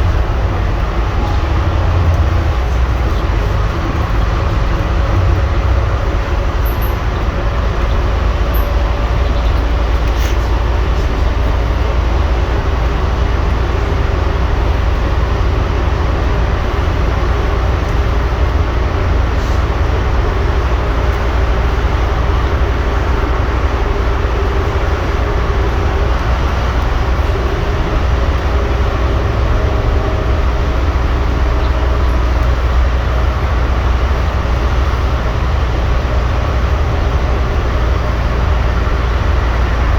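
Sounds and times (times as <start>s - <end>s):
bus engine drone: 0.0s - 39.9s
road and body noise: 0.0s - 39.9s.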